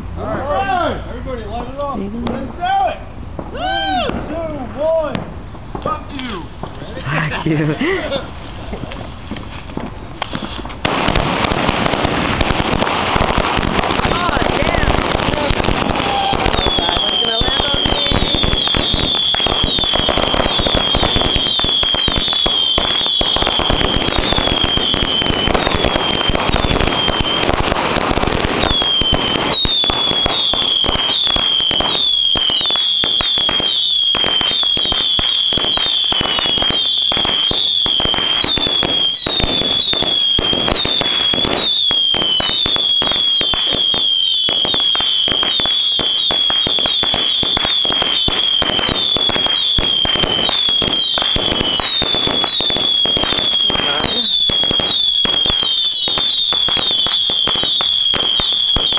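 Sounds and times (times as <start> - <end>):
fireworks popping and crackling: 0.0 - 58.9.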